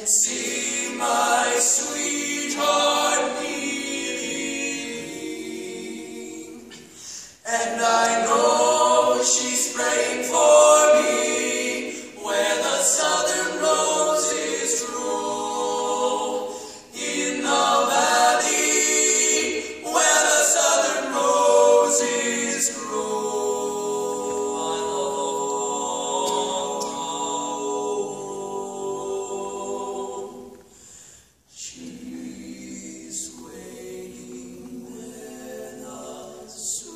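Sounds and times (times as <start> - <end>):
male vocal quartet singing a cappella: 0.0 - 36.9.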